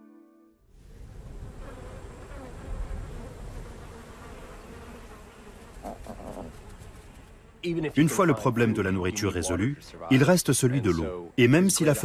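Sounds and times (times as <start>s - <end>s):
insects buzzing: 0.8s - 12.0s.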